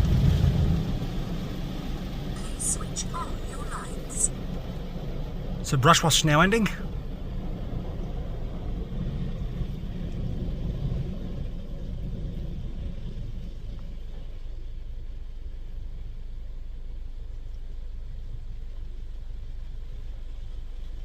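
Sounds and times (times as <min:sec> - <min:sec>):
car wash machinery rumble: 0:00.0 - 0:21.0.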